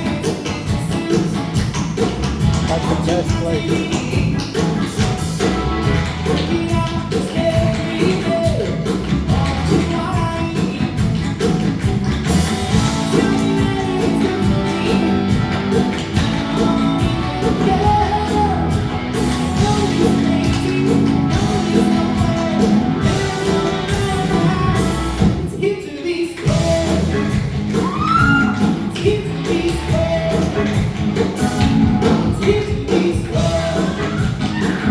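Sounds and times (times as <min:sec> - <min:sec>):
live band with singing: 0:00.0 - 0:34.9.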